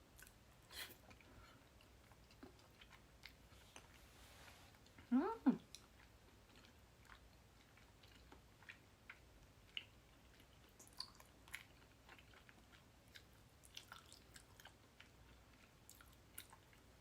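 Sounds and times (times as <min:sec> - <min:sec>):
low room hum: 0:00.0 - 0:17.0
chewing noodles: 0:01.0 - 0:17.0.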